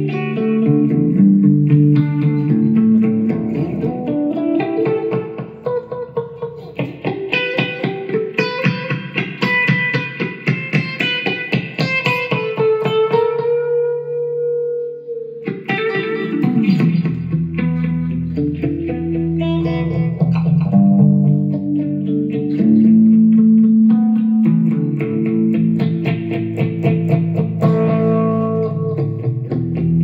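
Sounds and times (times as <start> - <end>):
instrumental music with plucked notes: 0.0 - 30.0.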